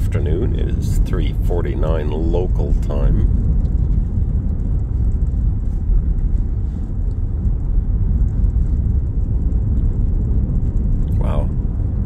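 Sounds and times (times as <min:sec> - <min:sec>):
tyre and road rumble in vehicle: 0:00.0 - 0:12.0.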